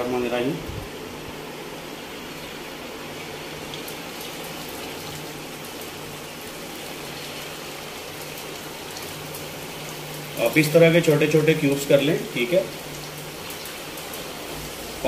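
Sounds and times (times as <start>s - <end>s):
chicken frying in hot oil: 0.0s - 15.0s
faint oil crackles: 0.9s - 15.0s.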